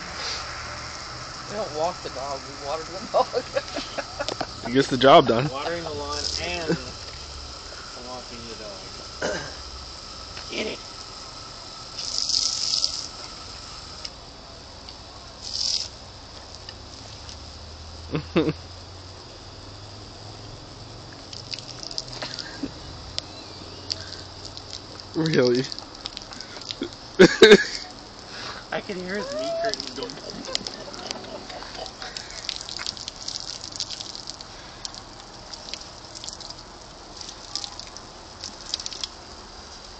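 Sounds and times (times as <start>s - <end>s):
faint steady hiss: 0.0s - 39.9s
sprinkler spray gush: 0.0s - 39.9s.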